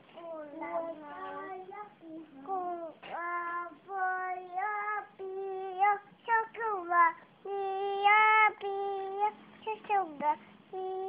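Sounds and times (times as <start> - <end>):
toddler singing: 0.1 - 11.0.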